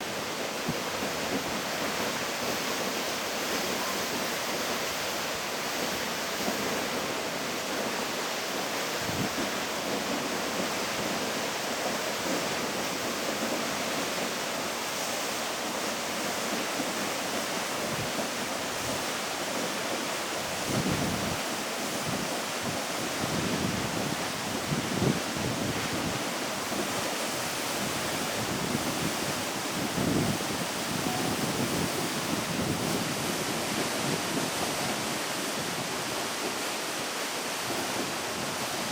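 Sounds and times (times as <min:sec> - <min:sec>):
waterfall rushing: 0:00.0 - 0:38.9
wind rumble on microphone: 0:00.0 - 0:38.9.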